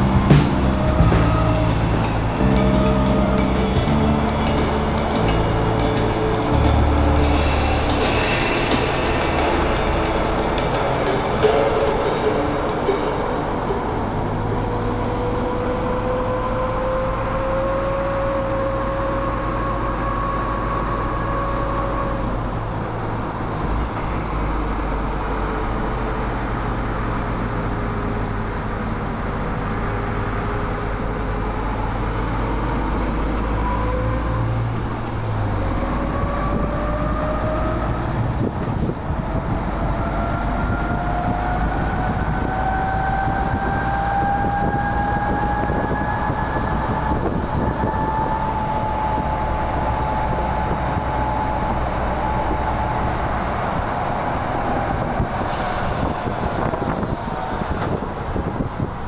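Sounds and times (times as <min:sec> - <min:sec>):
truck engine and road rumble: 0:00.0 - 0:59.0
truck whine: 0:00.0 - 0:59.0.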